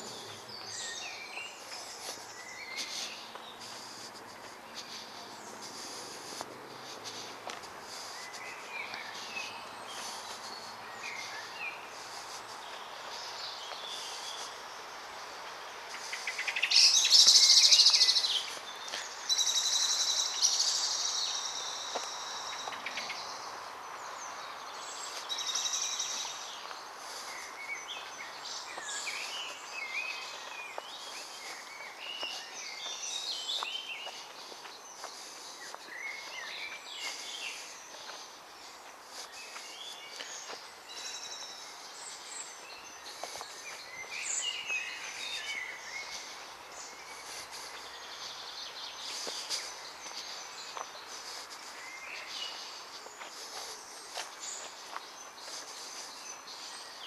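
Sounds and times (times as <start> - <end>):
background hiss: 0.0 - 57.0
songbirds singing: 0.0 - 57.0.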